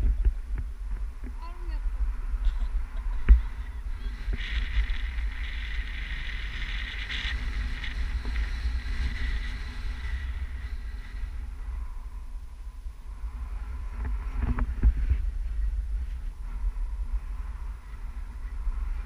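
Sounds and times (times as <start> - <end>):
high wind hiss: 0.0 - 19.0
wind rushing over microphone: 0.0 - 19.0.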